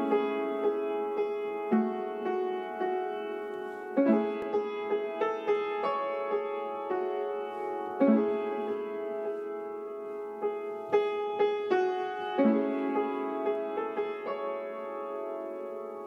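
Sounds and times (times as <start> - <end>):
solo piano jazz chords: 0.0 - 16.0.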